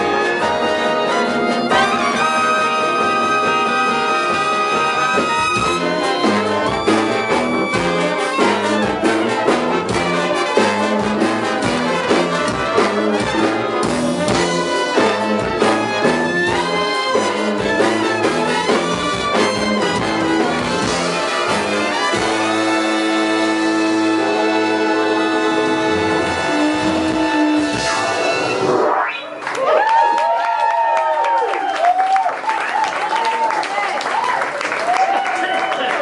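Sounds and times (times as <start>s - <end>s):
trumpets and trombones: 0.0s - 29.3s
big band playing: 0.0s - 30.3s.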